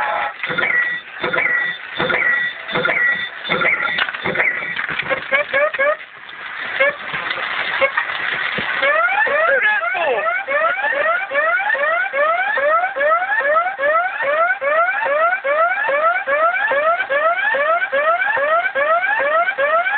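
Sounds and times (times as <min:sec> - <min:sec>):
arcade machine whooping alarm: 0:00.0 - 0:06.0, 0:08.8 - 0:19.9.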